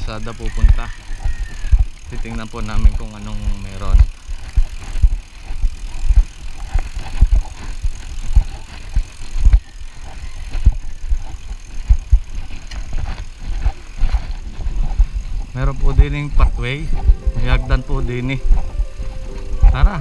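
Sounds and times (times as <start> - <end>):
light rattling ticks: 0.0 - 20.0.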